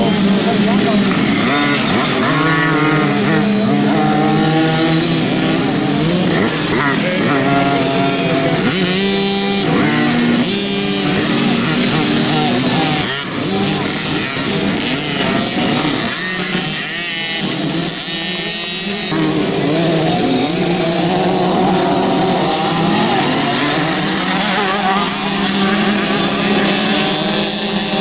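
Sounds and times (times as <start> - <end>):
small motorbike engines revving: 0.0 - 28.0.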